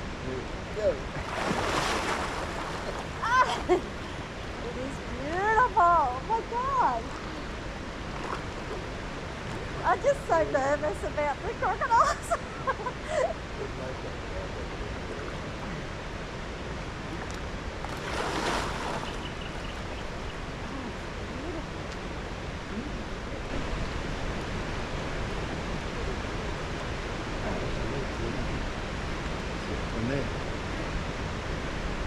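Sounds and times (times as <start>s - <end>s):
creek water flowing: 0.0s - 32.0s.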